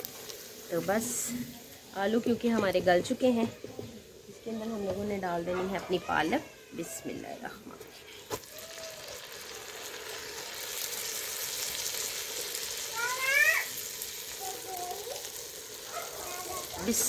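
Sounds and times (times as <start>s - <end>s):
ghee sizzling in a pot: 0.0s - 17.0s.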